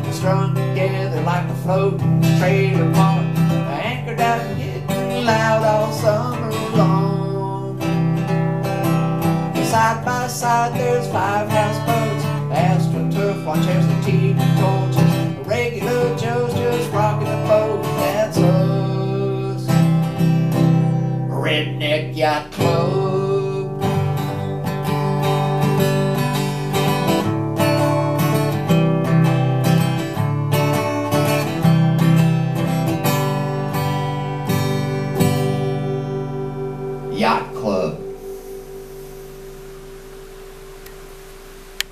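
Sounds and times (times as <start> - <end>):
acoustic guitar strummed: 0.0 - 41.9.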